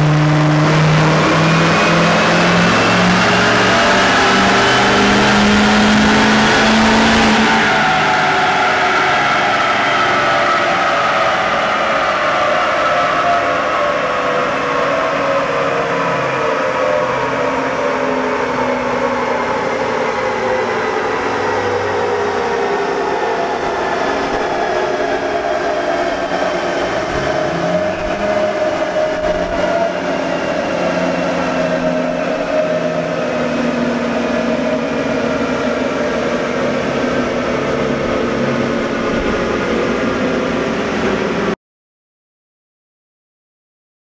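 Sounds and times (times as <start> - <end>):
whine falling in pitch: 0.0 - 15.8, 16.5 - 41.6
cooling blower running: 0.0 - 41.6.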